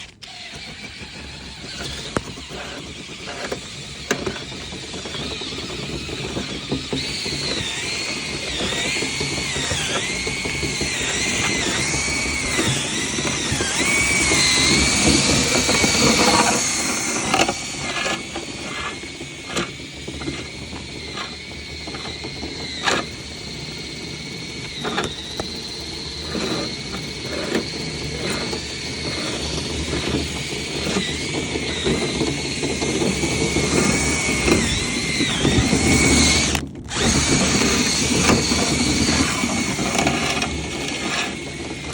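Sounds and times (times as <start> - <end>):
brush scraping: 0.0 - 23.2, 24.6 - 41.9
power drill motor whine: 0.0 - 41.9.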